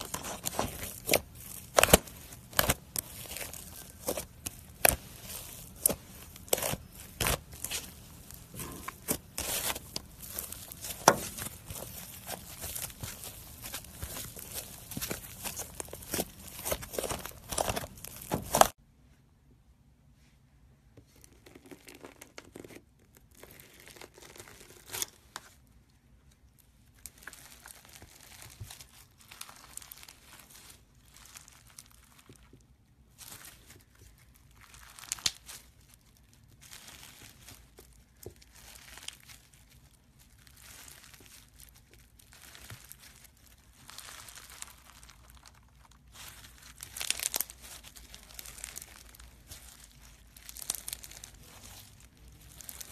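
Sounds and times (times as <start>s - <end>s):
crunchy slime crackling: 0.0s - 18.8s, 21.1s - 25.4s, 26.5s - 52.9s.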